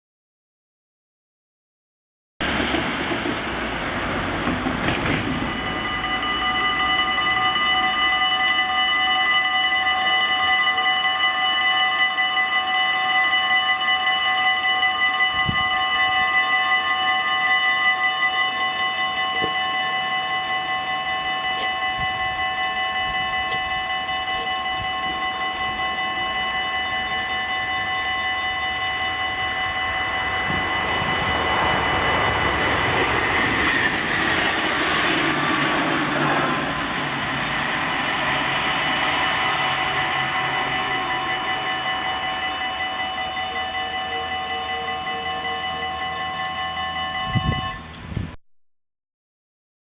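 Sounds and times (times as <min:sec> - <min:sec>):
passing train rushing: 0:02.4 - 0:48.4
level crossing warning bells: 0:03.7 - 0:48.1.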